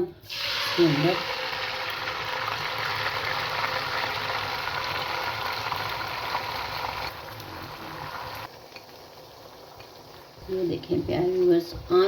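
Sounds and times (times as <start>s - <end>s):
egg mixture sizzling in ghee: 0.2s - 12.0s.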